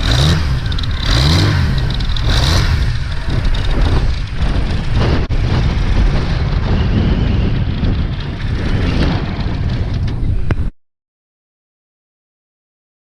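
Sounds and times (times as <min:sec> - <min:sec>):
motorcycle engine running at low revs: 0:00.0 - 0:10.7.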